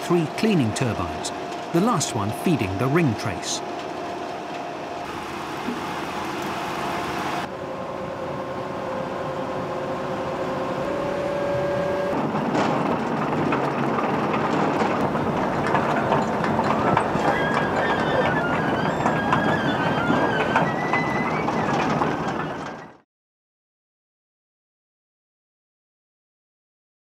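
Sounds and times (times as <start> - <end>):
harvester engine whine: 0.0 - 22.9.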